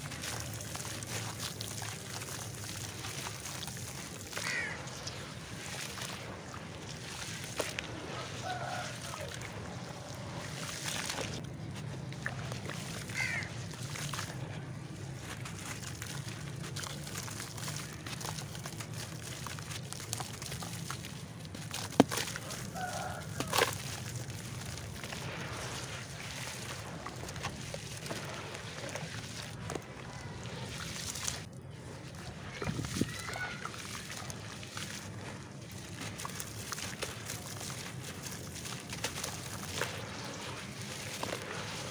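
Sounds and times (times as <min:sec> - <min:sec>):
hands sloshing wet clay in water: 0:00.0 - 0:41.9.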